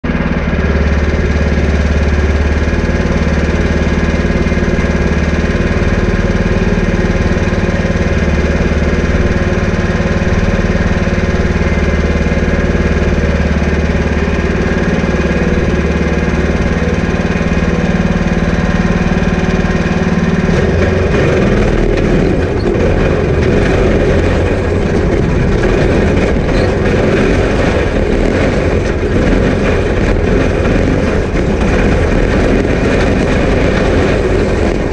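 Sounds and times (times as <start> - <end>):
go-kart driving over dirt: 0.0 - 34.9
go-kart engine idling: 0.0 - 34.9.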